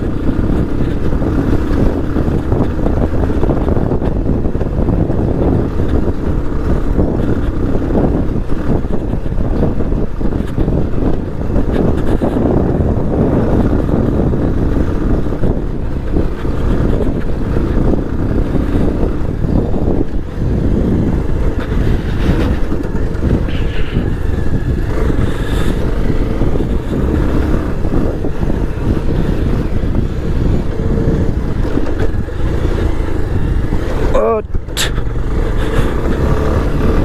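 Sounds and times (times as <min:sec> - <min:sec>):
motorcycle engine running: 0:00.0 - 0:37.0
off-road ride noise: 0:00.0 - 0:37.0.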